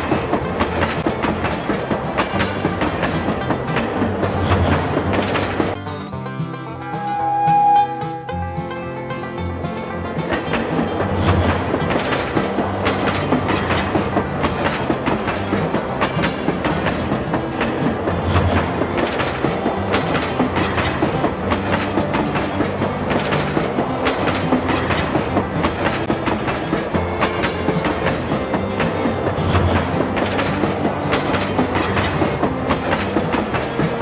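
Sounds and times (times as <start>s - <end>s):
train rumble: 0.0s - 6.1s, 7.0s - 34.0s
wheels clicking over rails: 0.0s - 6.1s, 7.6s - 34.0s.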